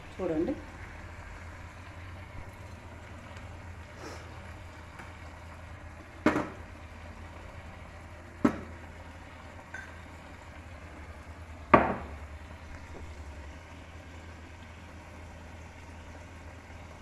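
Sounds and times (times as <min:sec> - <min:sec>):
low stove hum: 0:00.0 - 0:17.0.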